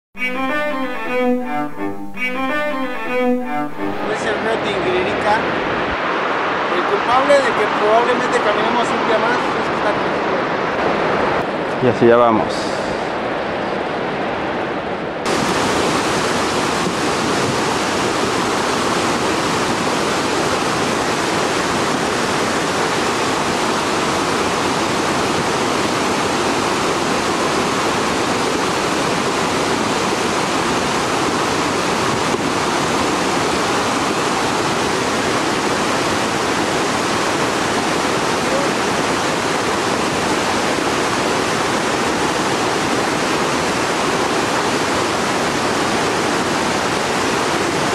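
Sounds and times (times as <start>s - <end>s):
whitewater rapids rushing: 2.0s - 47.9s.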